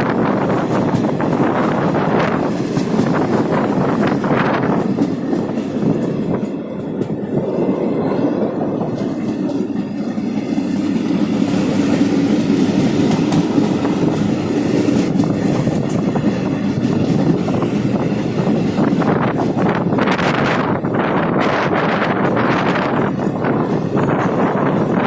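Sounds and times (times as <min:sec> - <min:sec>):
train carriages rumbling: 0:00.0 - 0:25.0
wheels clicking on track: 0:00.0 - 0:25.0.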